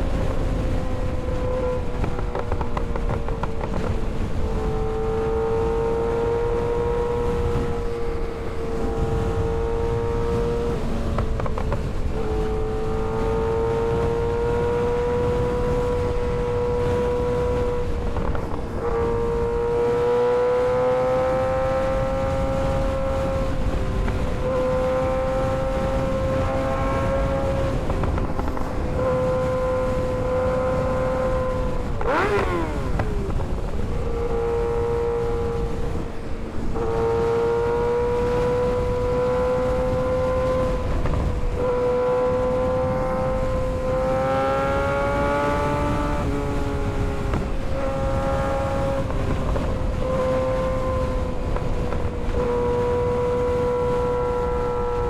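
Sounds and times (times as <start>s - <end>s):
motorcycle engine revving high: 0.0s - 55.0s
wind noise: 0.0s - 55.0s.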